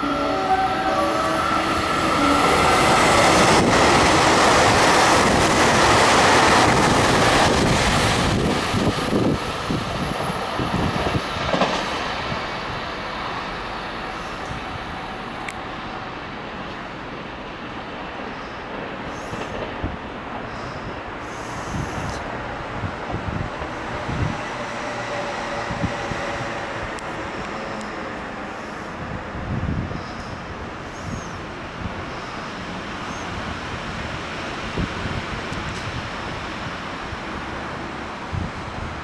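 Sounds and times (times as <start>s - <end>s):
train passing on rails: 0.0s - 39.0s.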